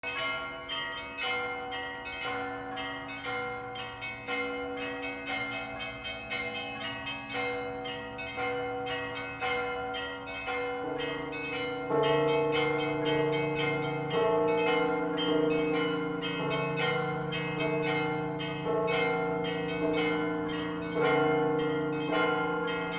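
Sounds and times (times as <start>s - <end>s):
lower loud church bells: 0.0s - 22.9s
small high church bells: 0.0s - 22.9s.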